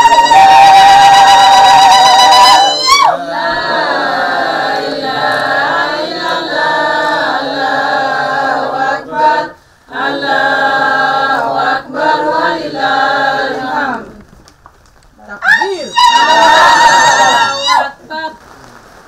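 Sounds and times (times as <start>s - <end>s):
group singing in unison: 0.0s - 14.2s, 16.0s - 18.0s.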